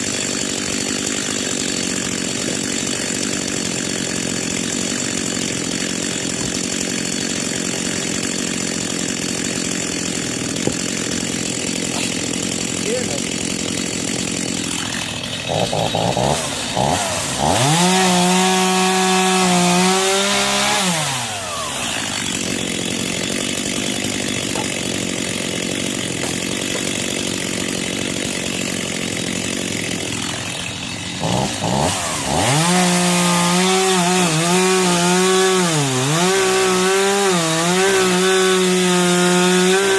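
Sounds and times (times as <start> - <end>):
chainsaw cutting wood: 0.0 - 39.9
chainsaw idling and revving: 0.0 - 39.9.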